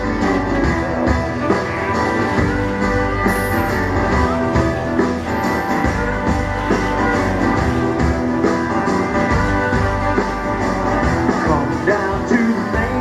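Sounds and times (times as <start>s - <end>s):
electric guitar: 0.0s - 13.0s
rock band playing: 0.0s - 13.0s
steady drum beat: 0.0s - 13.0s.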